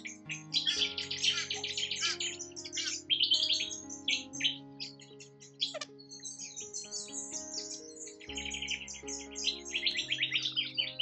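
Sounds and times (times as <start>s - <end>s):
small birds chirping: 0.0s - 11.0s
soft background music: 0.0s - 11.0s.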